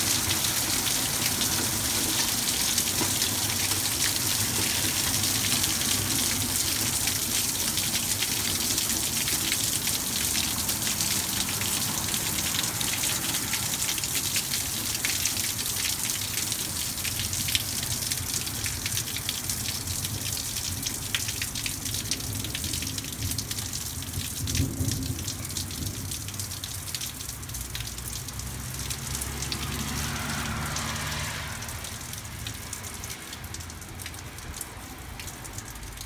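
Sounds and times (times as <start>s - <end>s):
heavy rain on concrete: 0.0s - 36.0s.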